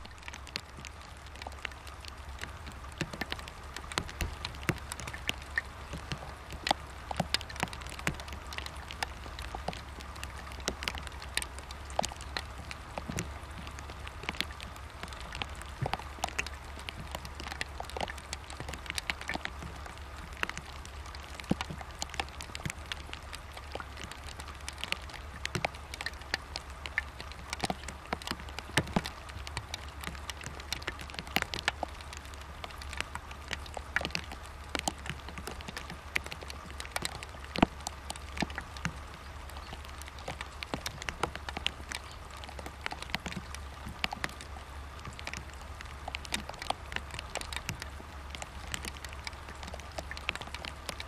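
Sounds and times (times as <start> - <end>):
light clicks and taps: 0.0 - 51.0.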